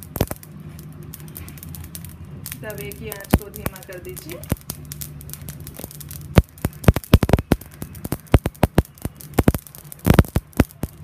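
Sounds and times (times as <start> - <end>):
seeds popping on hot pan: 0.0 - 11.0.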